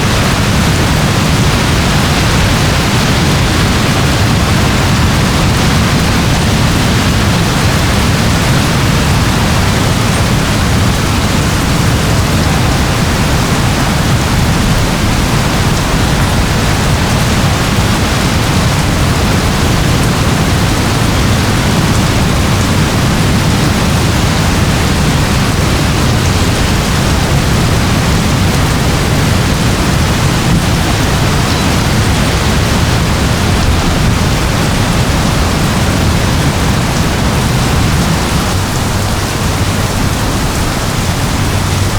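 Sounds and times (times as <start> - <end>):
heavy low rumble: 0.0 - 41.9
steady rain: 0.0 - 41.9.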